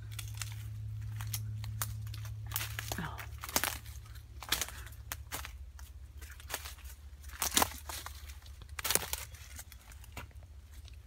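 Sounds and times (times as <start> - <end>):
footsteps crunching through dry leaves: 0.0 - 11.0
low steady rumble: 0.0 - 11.0
twigs cracking: 0.0 - 11.0.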